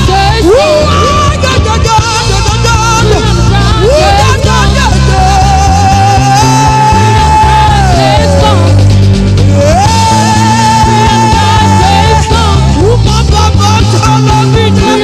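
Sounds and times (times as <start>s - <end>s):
solo voice singing wordless melody: 0.0s - 8.9s, 9.5s - 15.0s.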